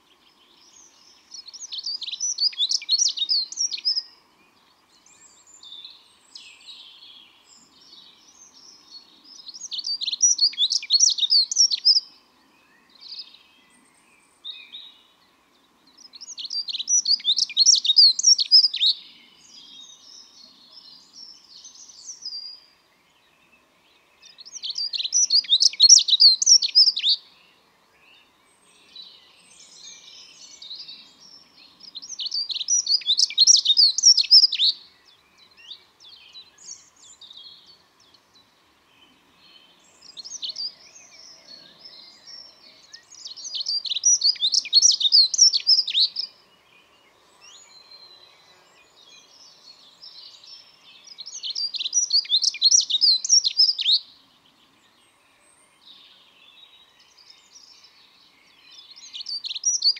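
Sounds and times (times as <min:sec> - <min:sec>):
bird singing warbling phrases: 0:00.0 - 0:15.3, 0:15.9 - 0:59.9.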